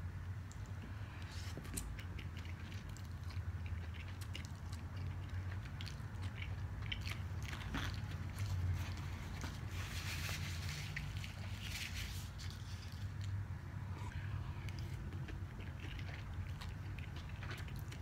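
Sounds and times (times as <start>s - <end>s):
person chewing noodles: 0.4s - 18.0s.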